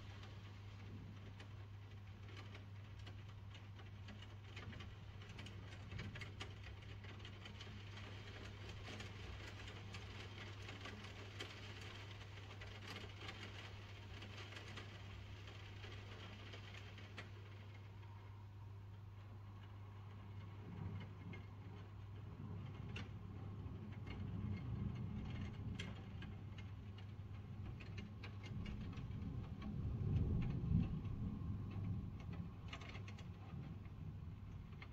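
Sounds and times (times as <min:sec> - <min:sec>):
rain pattering: 0:00.0 - 0:34.9.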